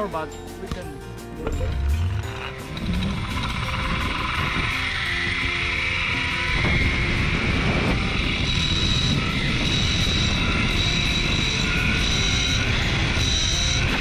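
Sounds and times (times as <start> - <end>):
thin high whine: 1.5 - 14.0
zipline pulleys on steel cable: 1.7 - 14.0
rush of wind: 1.8 - 14.0.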